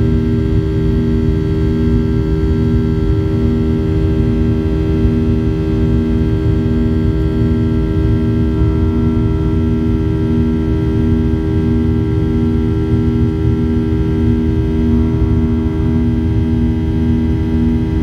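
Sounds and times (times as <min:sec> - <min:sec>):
low droning hum: 0:00.0 - 0:18.0
airplane cabin rumble: 0:01.8 - 0:18.0.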